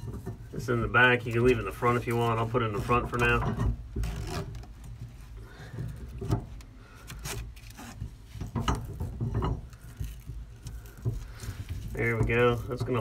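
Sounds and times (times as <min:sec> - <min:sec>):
strap rubbing: 0:00.0 - 0:13.0.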